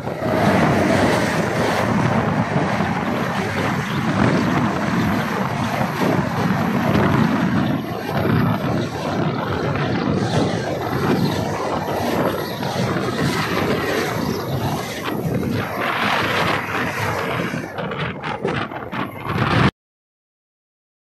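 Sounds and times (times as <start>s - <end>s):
passing train wheels rumbling: 0.0s - 19.7s
wind rushing: 0.0s - 19.7s.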